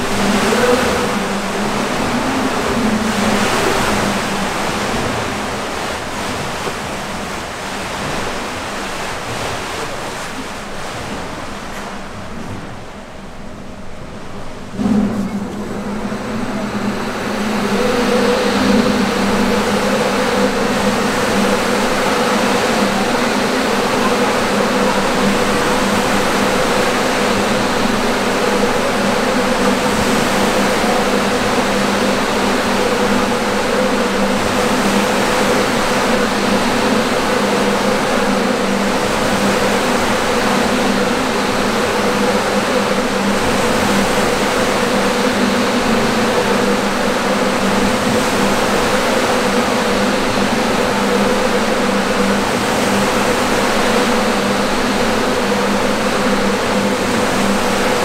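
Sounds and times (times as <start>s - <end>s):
wave machine two-tone hum: 0.0s - 9.5s, 10.6s - 58.0s
waves rushing and breaking: 0.0s - 58.0s.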